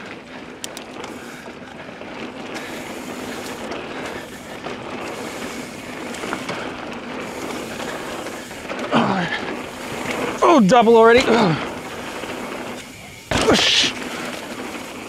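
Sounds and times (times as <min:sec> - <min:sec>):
bike tyre noise on dirt: 0:00.0 - 0:15.0.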